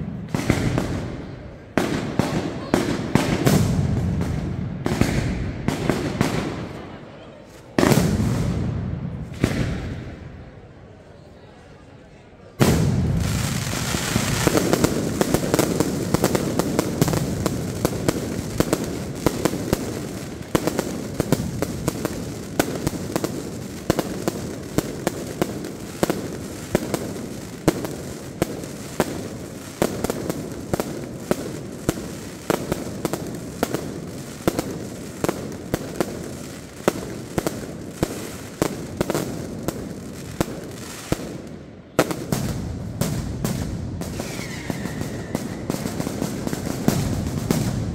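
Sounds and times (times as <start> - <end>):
loud firecracker bangs: 0.0 - 6.9, 7.8 - 10.5, 12.6 - 47.9.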